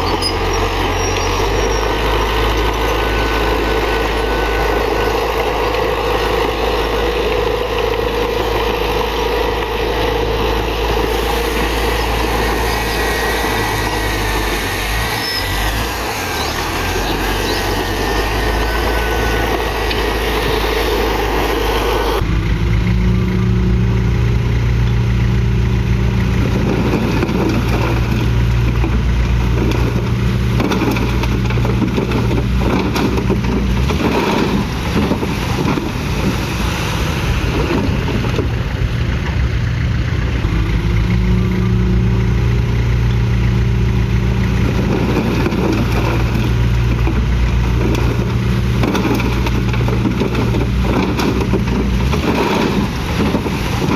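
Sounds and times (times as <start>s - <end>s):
bulldozer diesel engine under load: 0.0s - 53.9s.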